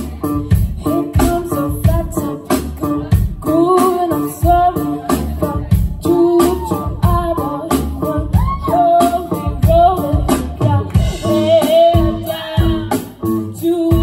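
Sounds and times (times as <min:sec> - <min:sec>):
bass guitar: 0:00.0 - 0:14.0
drum kit beat: 0:00.0 - 0:14.0
electric guitar: 0:00.0 - 0:14.0
women singing: 0:00.0 - 0:14.0.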